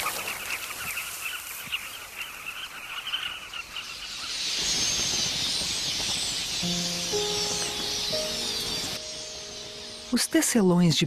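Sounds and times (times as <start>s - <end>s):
large flock twittering: 0.0s - 11.0s
small birds chirping: 0.0s - 11.0s.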